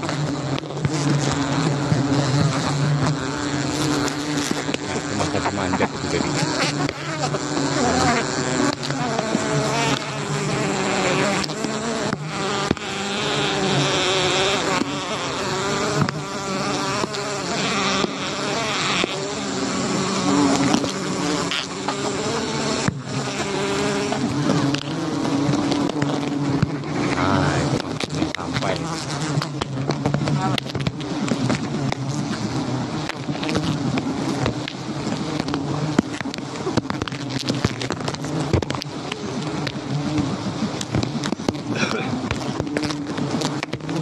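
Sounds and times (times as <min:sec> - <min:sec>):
bees buzzing loudly: 0:00.0 - 0:44.0
bees flying past microphone: 0:00.0 - 0:44.0.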